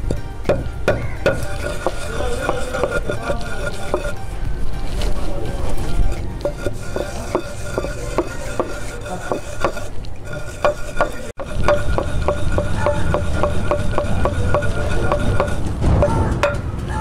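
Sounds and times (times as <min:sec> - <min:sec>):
pestle pounding seeds in mortar: 0:00.0 - 0:04.2, 0:04.8 - 0:16.7.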